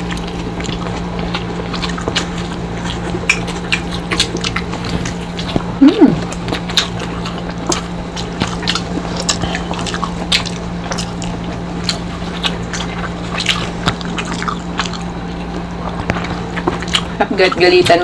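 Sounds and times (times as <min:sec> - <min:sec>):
chewing and lip smacks: 0:00.0 - 0:18.0
steady low hum: 0:00.0 - 0:18.0.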